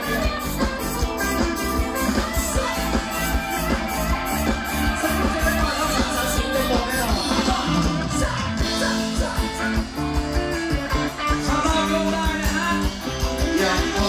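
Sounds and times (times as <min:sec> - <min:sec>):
drum kit beat: 0:00.0 - 0:14.0
guitar: 0:00.0 - 0:14.0
live band music: 0:00.0 - 0:14.0.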